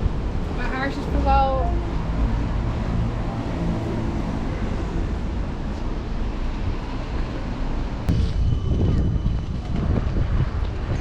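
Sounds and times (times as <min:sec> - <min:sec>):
street traffic passing: 0:00.0 - 0:11.0.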